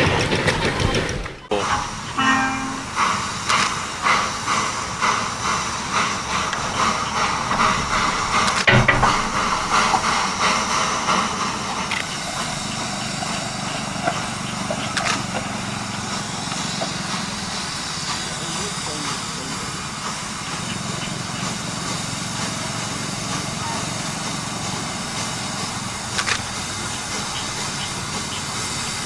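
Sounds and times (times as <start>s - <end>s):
steam locomotive chuffing: 0.0s - 29.0s
steam hissing: 1.5s - 29.0s.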